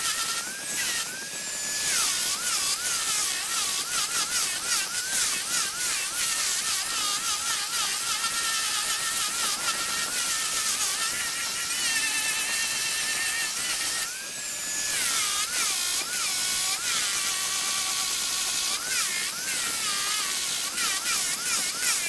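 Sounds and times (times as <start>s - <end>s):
power tool whining against wood: 0.0s - 22.0s.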